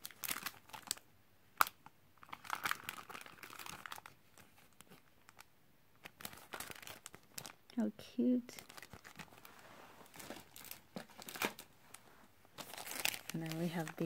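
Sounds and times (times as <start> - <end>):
plastic packaging crinkling: 0.0 - 1.0, 1.6 - 7.9, 8.5 - 14.0.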